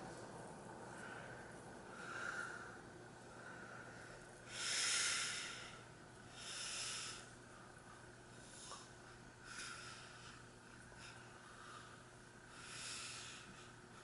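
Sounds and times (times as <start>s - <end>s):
ceiling fan coasting down: 0.0s - 14.0s
low steady hum: 0.0s - 14.0s
breathy hisses: 0.9s - 13.8s.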